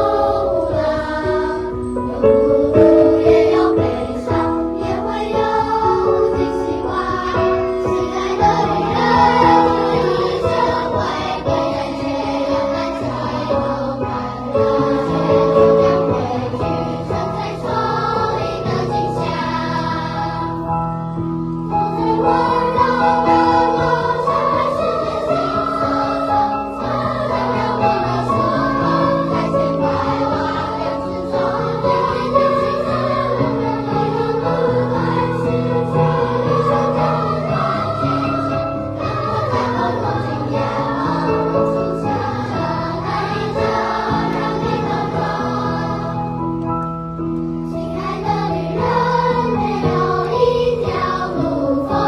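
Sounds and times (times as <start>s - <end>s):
children's choir singing: 0.0s - 52.0s.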